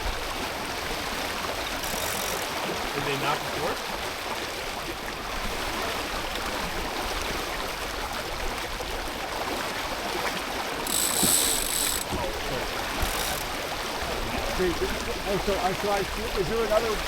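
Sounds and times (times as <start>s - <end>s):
water rushing along boat hull: 0.0s - 17.0s.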